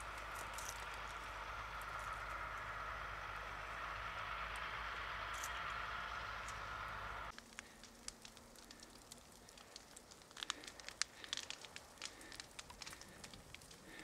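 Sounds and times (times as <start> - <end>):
crackles of burning wood: 0.0 - 14.0
faint fire hiss: 0.0 - 14.0
steady rumble: 0.0 - 14.0.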